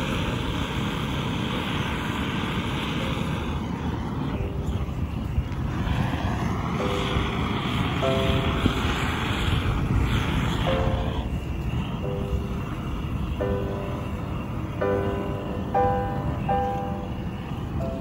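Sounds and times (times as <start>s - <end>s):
low wind rumble: 0.0s - 18.0s
road traffic rushing: 0.0s - 18.0s.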